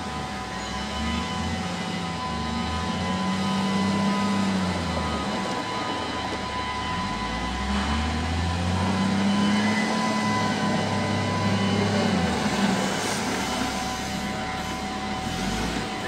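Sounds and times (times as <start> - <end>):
wheel loader diesel engine revving: 0.0 - 16.0.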